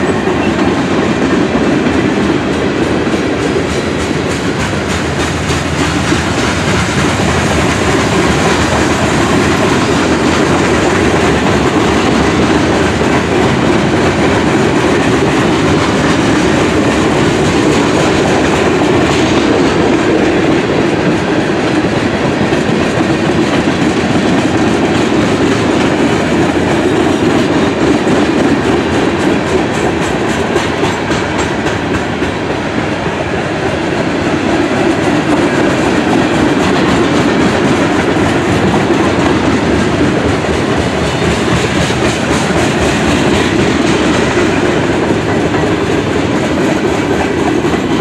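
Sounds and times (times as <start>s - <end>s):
freight train rumbling past: 0.0s - 48.0s
train wheels clacking over rails: 0.0s - 48.0s.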